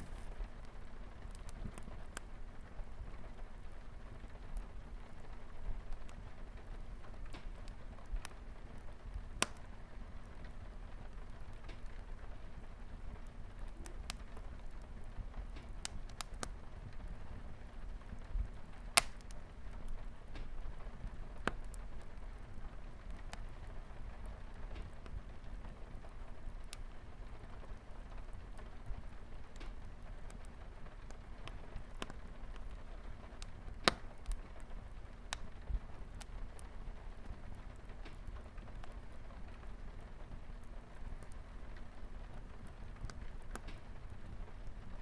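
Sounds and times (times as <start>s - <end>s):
light rain: 0.0s - 45.0s
wood fire crackling: 0.0s - 45.0s.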